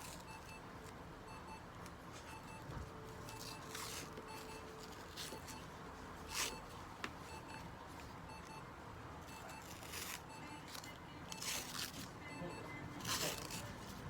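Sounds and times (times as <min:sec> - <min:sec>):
electronic device beeping: 0:00.0 - 0:13.8.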